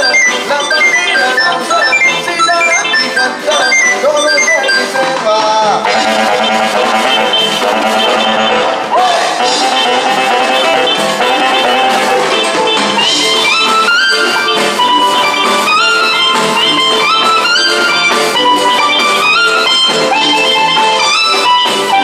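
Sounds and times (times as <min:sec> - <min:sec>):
live band playing: 0:00.0 - 0:22.0.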